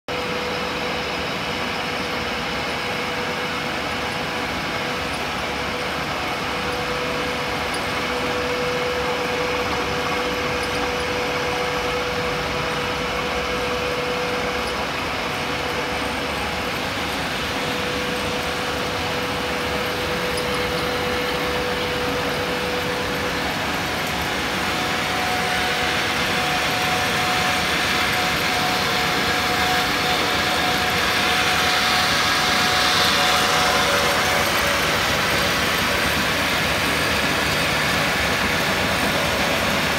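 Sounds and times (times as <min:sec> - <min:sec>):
machinery running: 0:00.1 - 0:39.9
steady hum: 0:00.1 - 0:39.9.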